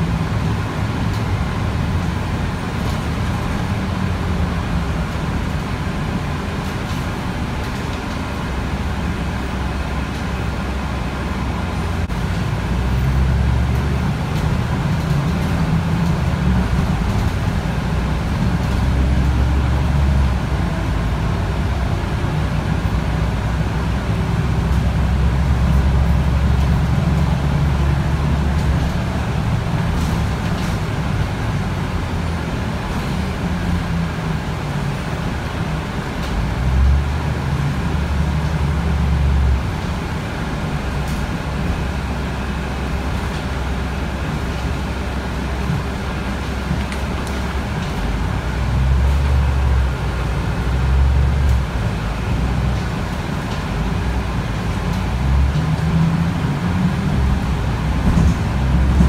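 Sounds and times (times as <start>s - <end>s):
bus diesel engine rumbling: 0.0s - 59.0s
road and tyre noise: 0.0s - 59.0s.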